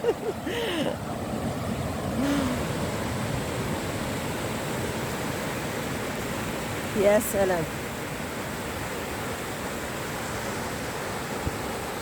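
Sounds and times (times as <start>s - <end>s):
waves breaking on a beach: 0.0s - 12.0s.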